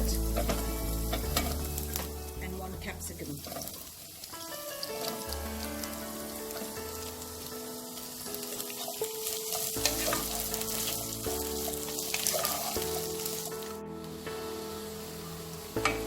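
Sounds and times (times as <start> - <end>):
background music: 0.0 - 16.0
vegetables sizzling in a pan: 0.0 - 16.0.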